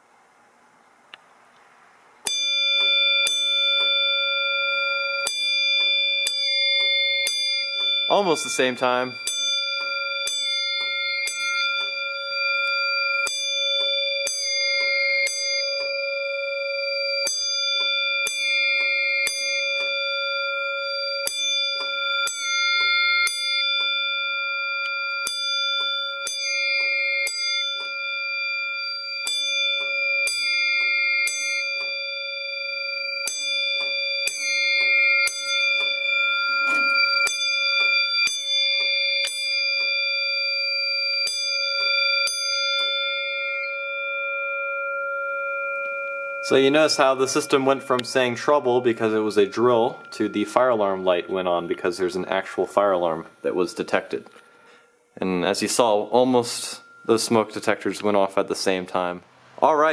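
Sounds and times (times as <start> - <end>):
fire alarm bell striking: 2.2 - 59.9.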